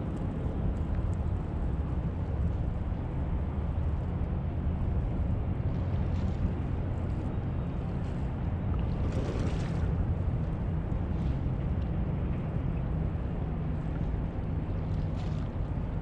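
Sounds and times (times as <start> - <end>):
harbour background noise: 0.0 - 16.0
wind rumble on microphone: 0.0 - 16.0.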